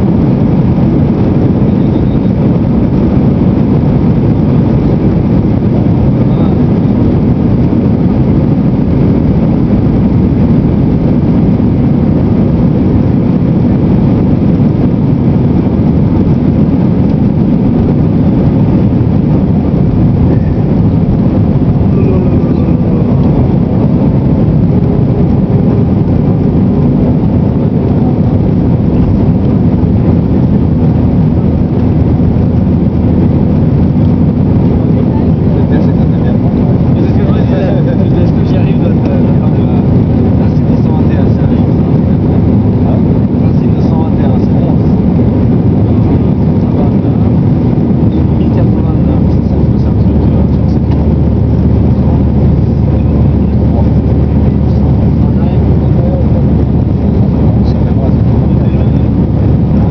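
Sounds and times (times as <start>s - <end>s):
jet engines at take-off thrust: 0.0s - 59.9s.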